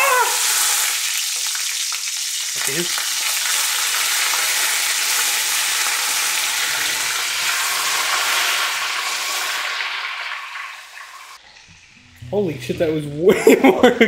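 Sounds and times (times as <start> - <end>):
butter sizzling in a skillet: 0.0 - 11.9.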